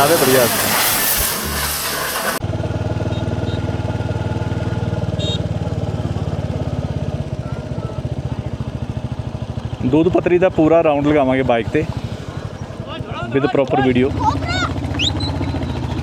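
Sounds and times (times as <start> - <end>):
motorcycle engine idling: 2.4 - 16.0.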